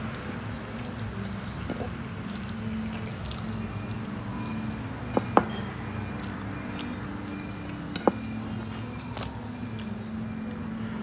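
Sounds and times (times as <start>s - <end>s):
chewing: 0.0s - 11.0s
fingers squishing food: 0.0s - 11.0s.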